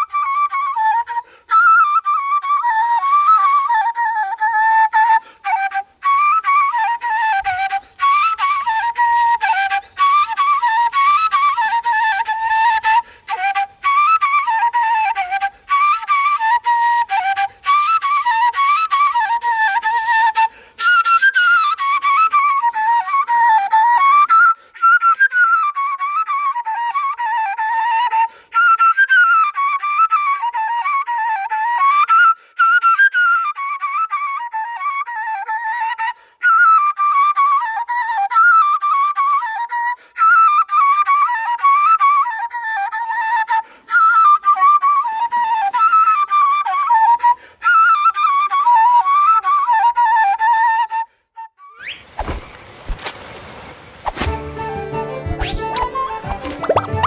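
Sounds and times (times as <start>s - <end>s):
end-blown flute melody: 0.0s - 57.0s.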